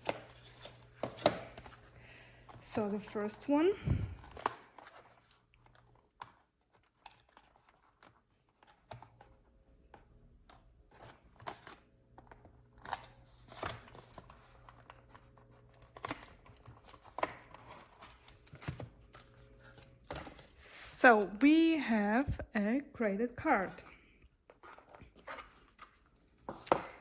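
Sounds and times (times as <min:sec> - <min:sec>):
cardboard and plastic rustling: 0:00.0 - 0:21.3, 0:23.6 - 0:27.0.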